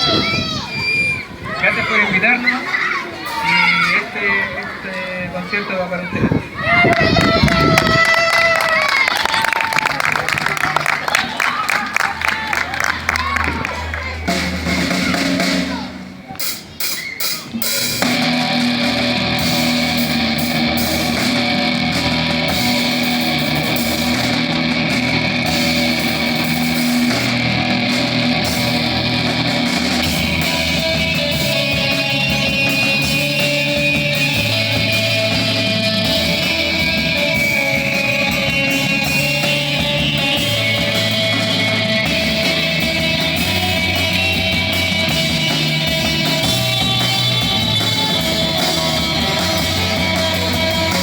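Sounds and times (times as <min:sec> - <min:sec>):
noise rock band playing: 0:00.0 - 0:51.0.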